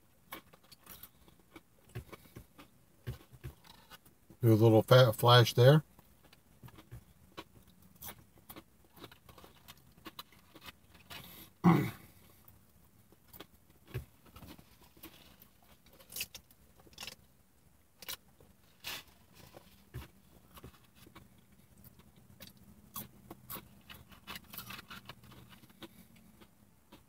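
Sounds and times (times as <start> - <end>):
chewing food: 0.2 - 4.0, 5.9 - 17.2, 18.0 - 27.0.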